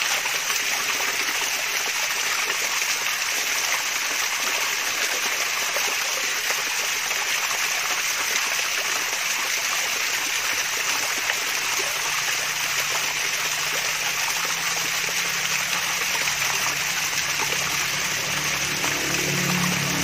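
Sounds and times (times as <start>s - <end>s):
small waterfall splashing: 0.0s - 20.0s.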